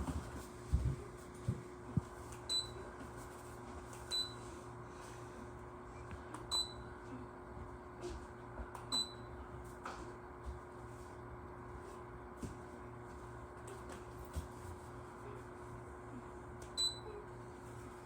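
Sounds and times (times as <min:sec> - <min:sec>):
ceiling fan humming: 0:00.0 - 0:18.0.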